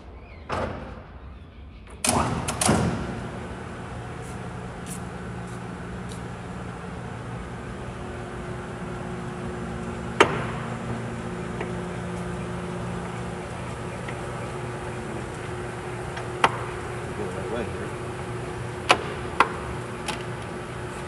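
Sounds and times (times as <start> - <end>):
low machine hum: 1.2 - 21.0.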